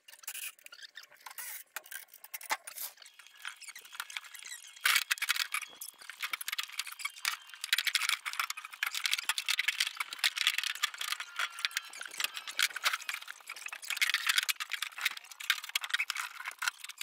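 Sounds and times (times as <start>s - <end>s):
high-pitched rattling and clattering: 0.2s - 17.0s.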